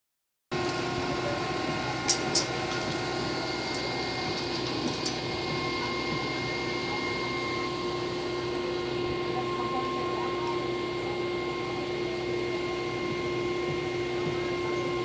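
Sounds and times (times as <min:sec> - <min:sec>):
machine hum with fixed tones: 0:00.5 - 0:15.0.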